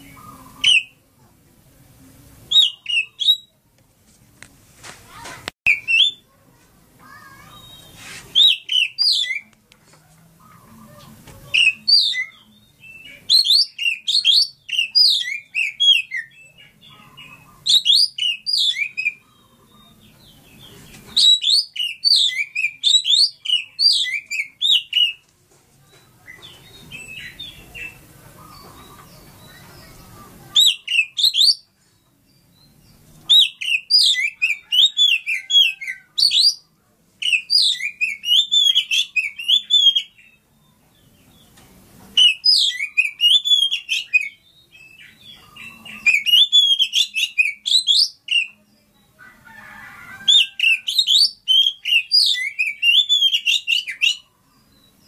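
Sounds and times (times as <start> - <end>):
bird singing whistles and chirps: 0.0 - 1.0, 2.5 - 3.6, 5.7 - 6.2, 7.4 - 9.5, 11.5 - 25.2, 25.9 - 41.5, 42.2 - 49.1, 50.3 - 55.0.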